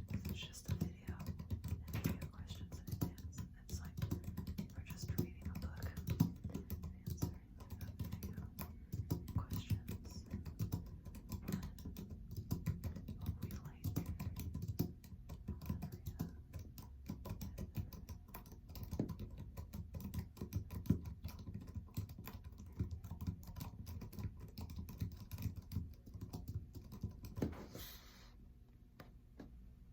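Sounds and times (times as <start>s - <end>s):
computer keyboard typing: 0.0s - 27.5s.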